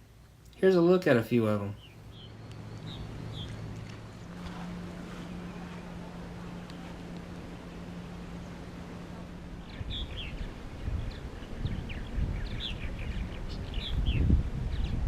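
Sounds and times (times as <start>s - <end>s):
steady low hum: 0.0s - 15.0s
small birds chirping: 0.4s - 15.0s
low uneven rumble: 1.1s - 15.0s.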